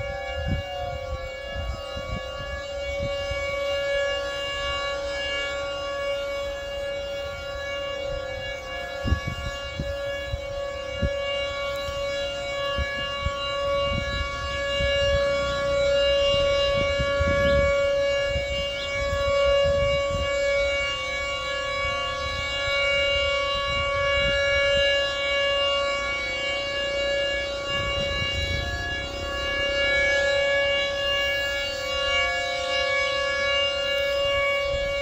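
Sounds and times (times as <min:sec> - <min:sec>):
warning siren steady tone: 0:00.0 - 0:35.0.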